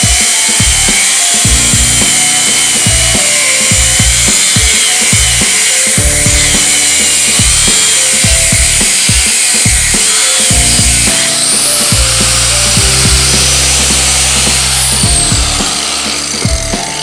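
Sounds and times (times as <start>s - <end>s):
high wavering whine and hiss: 0.0s - 17.0s
music with drum beat and synth: 0.0s - 17.0s.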